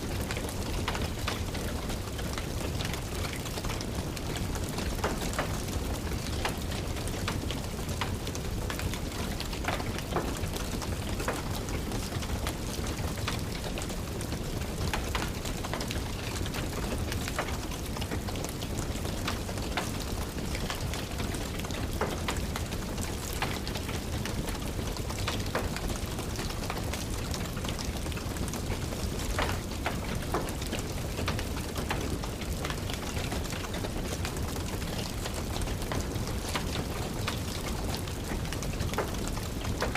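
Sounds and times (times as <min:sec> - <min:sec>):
steady rain: 0:00.0 - 0:39.9
wood fire crackling: 0:00.1 - 0:39.9.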